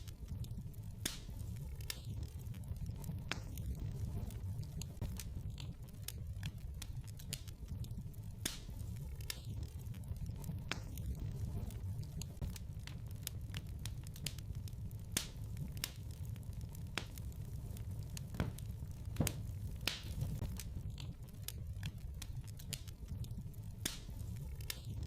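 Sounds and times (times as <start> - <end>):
fire popping and crackling: 0.0 - 25.0
low rumble of flames: 0.0 - 25.0.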